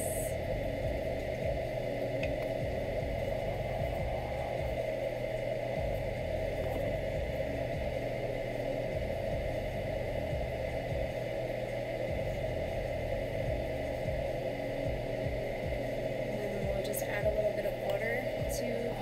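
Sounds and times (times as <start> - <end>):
steady hum and hiss: 0.0 - 19.0.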